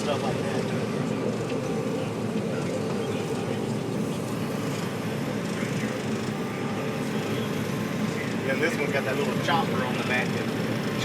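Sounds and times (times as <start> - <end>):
combine harvester drone: 0.0 - 11.0
faint steady tones: 0.0 - 11.0.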